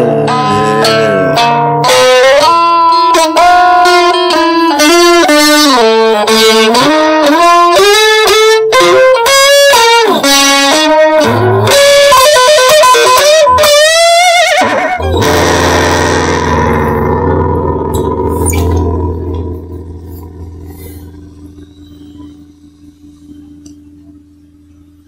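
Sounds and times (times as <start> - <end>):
electric guitar lead melody: 0.0 - 25.0.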